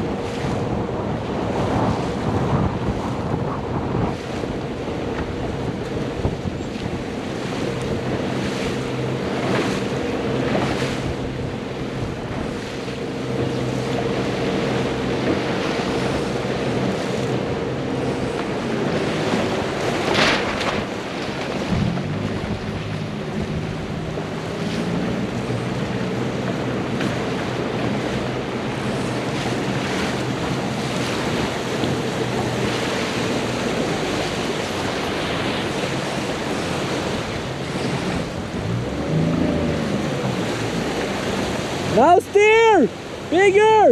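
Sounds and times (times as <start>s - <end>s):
low engine hum: 0.0s - 43.9s
water rushing past boat: 0.0s - 43.9s
wind buffeting microphone: 0.0s - 43.9s.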